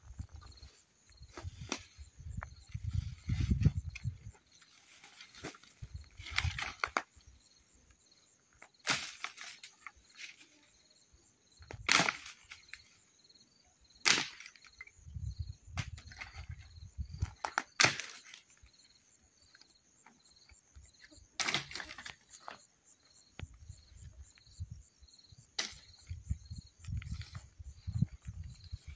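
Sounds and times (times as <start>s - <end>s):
insects chirping faintly: 0.0s - 28.9s.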